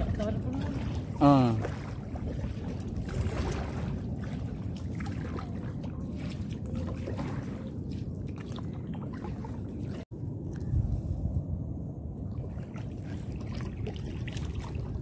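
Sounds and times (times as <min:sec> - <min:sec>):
water splashing around boat: 0:00.0 - 0:10.1, 0:12.2 - 0:15.0
steady low rumble: 0:00.0 - 0:15.0.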